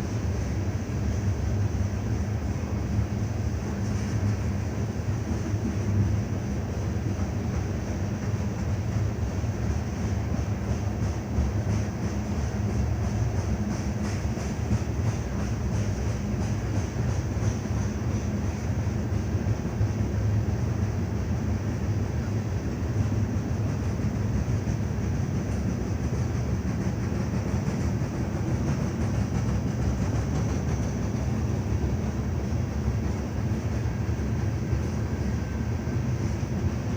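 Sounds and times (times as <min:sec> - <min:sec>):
train cars rolling on rails: 0:00.0 - 0:36.9.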